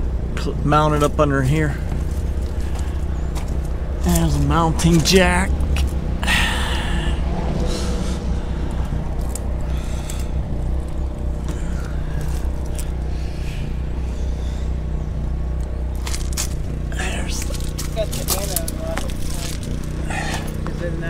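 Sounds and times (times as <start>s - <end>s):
generator humming: 0.0s - 21.0s.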